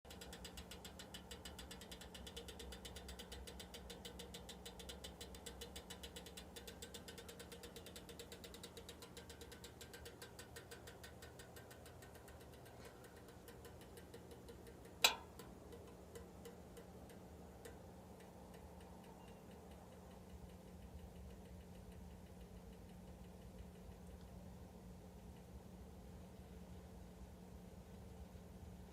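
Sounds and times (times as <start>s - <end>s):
heater ticking: 0.1s - 28.9s
steady low hum: 0.1s - 28.9s.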